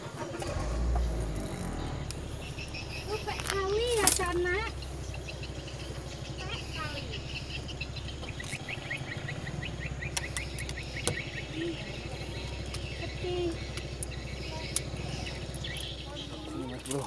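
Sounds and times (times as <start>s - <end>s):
birds chirping: 0.0s - 17.0s
steady low rumble: 0.2s - 17.0s.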